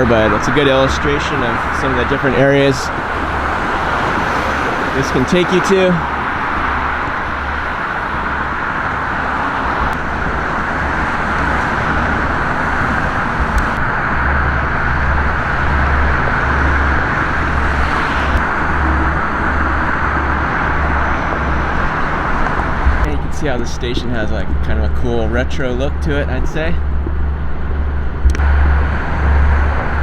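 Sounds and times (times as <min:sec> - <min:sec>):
road traffic roar: 0:00.0 - 0:30.0.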